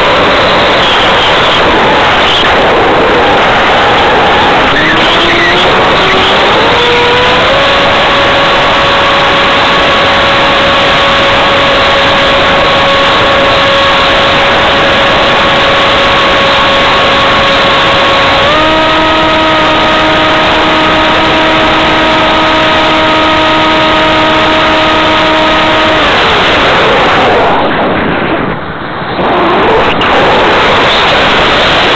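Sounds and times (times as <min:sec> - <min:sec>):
electric motor whine: 0:00.0 - 0:27.1
rushing air: 0:00.0 - 0:31.9.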